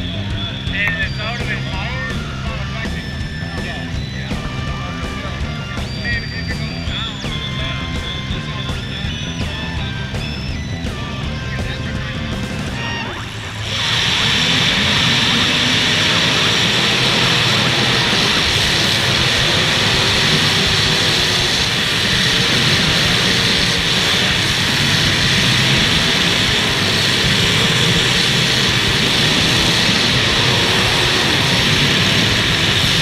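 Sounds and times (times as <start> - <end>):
car engines running: 0.0 - 33.0.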